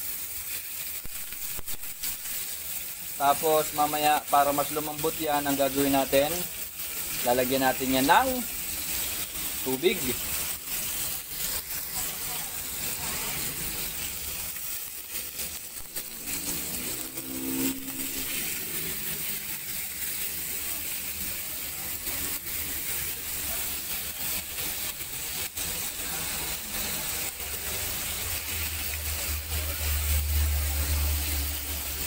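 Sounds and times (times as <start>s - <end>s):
beef sizzling in hot oil: 0.0s - 32.0s.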